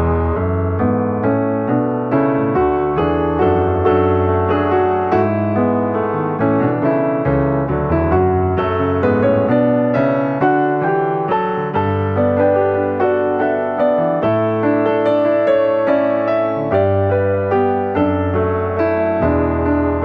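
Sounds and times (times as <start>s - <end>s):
piano playing: 0.0s - 20.0s.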